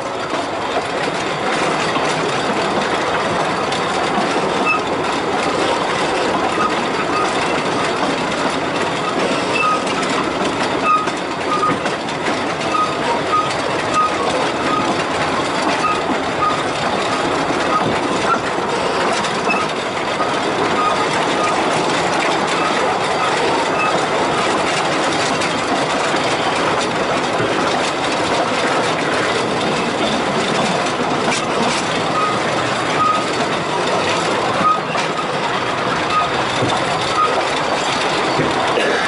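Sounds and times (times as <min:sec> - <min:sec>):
train coaches rumbling and rattling: 0:00.0 - 0:39.0.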